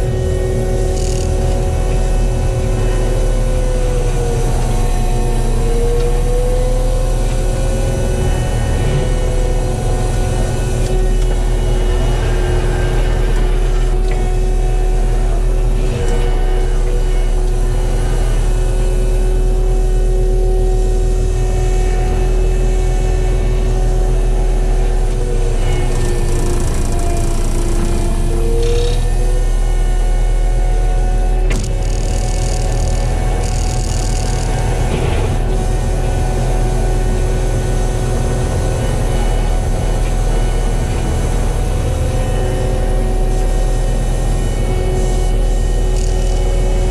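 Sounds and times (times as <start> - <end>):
diesel engine droning: 0.0 - 46.9
mulcher drum whine: 0.0 - 46.9.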